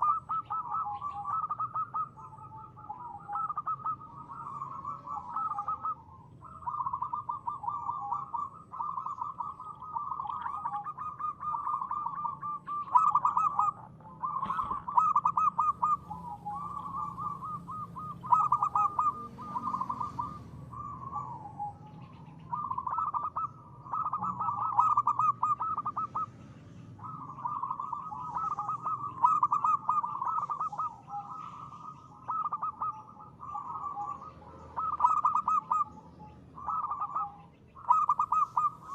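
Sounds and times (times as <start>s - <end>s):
dove trilled cooing: 0.0s - 38.9s.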